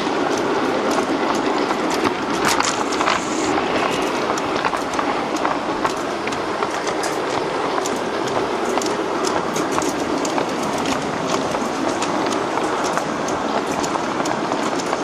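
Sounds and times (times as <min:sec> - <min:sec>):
model train rumbling on track: 0:00.0 - 0:15.0
wheels clicking over rails: 0:00.0 - 0:15.0.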